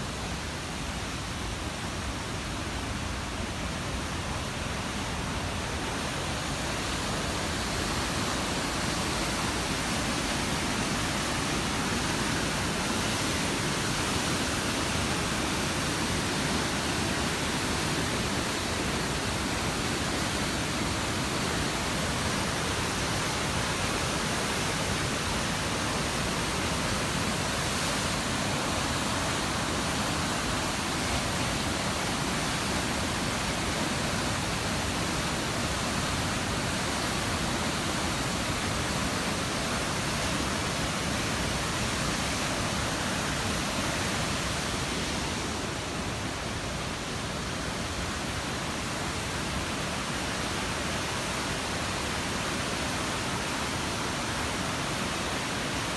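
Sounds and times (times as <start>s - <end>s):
rush of falling water: 0.0s - 55.9s.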